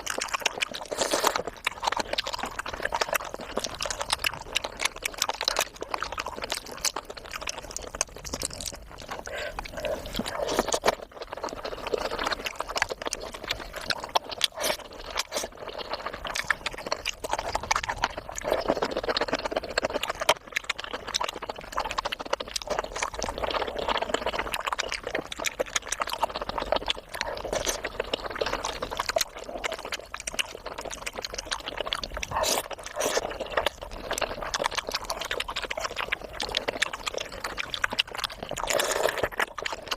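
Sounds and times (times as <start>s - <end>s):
wet chewing and slurping: 0.0s - 39.9s.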